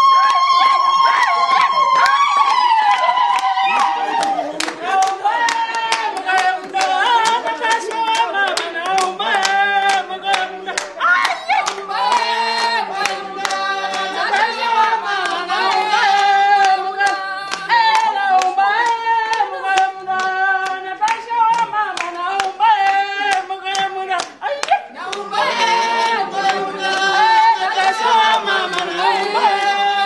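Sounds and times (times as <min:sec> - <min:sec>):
group singing unaccompanied: 0:00.0 - 0:30.0
hands clapping in rhythm: 0:00.0 - 0:30.0.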